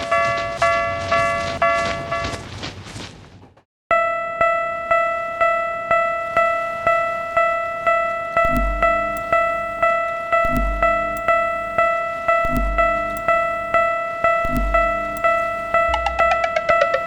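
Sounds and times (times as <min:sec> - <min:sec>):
crossing alarm bell dinging: 0:00.0 - 0:02.5, 0:03.9 - 0:17.0.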